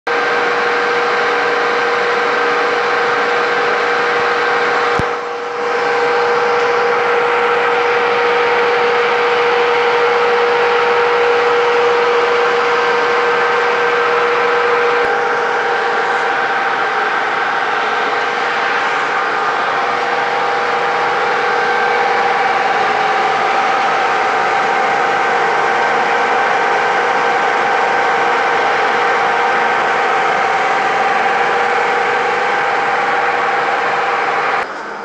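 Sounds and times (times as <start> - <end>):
drill boring into metal: 0.1 - 35.0
metal lathe whining: 0.1 - 35.0.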